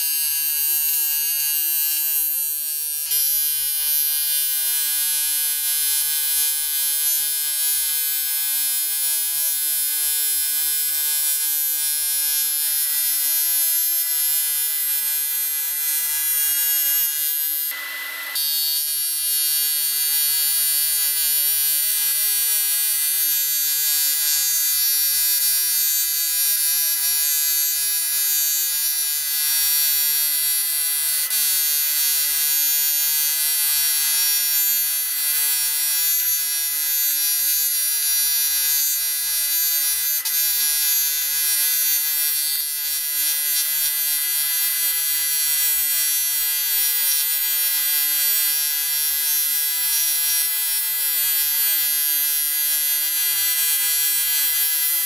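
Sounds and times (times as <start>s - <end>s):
welding arc buzzing and hissing: 0.0s - 7.7s, 13.0s - 55.0s.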